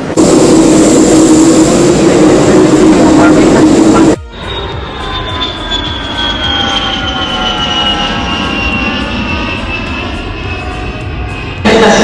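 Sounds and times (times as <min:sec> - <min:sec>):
jet engines rumbling and whining: 0:00.0 - 0:12.0.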